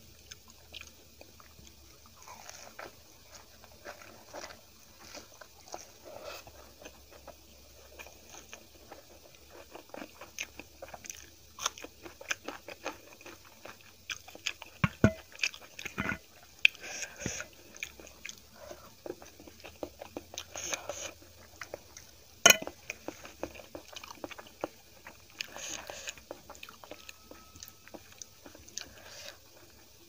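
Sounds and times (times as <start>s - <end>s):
wet chewing: 0.2s - 30.0s.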